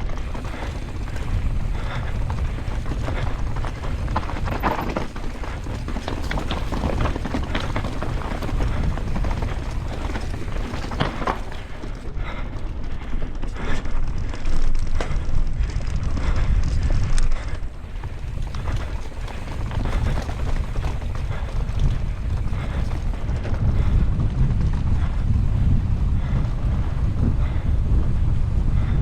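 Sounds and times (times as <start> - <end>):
bike rattling over rough ground: 0.0 - 29.0
wind rumbling on microphone: 0.0 - 29.0.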